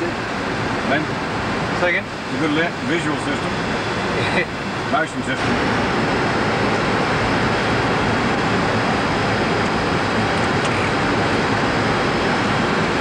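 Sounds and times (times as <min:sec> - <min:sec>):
cockpit airflow and engine noise: 0:00.0 - 0:13.0.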